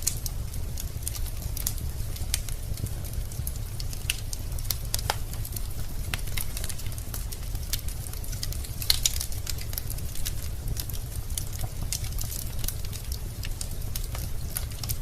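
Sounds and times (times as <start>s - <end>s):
burning logs crackling and popping: 0.0s - 15.0s
fire rumbling: 0.0s - 15.0s.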